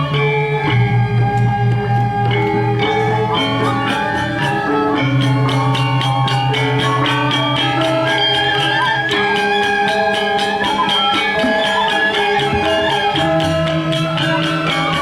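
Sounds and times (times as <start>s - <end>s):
gamelan music: 0.0s - 15.0s.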